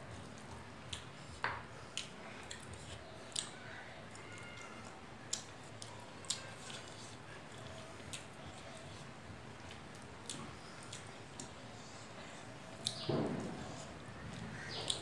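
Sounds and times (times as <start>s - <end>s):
chewing: 0.1s - 15.0s.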